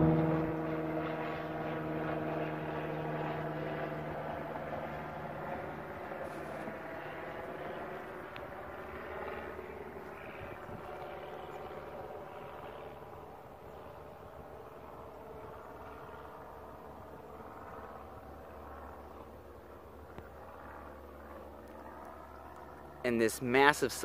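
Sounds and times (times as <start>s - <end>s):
distant engine droning: 0.0s - 24.0s.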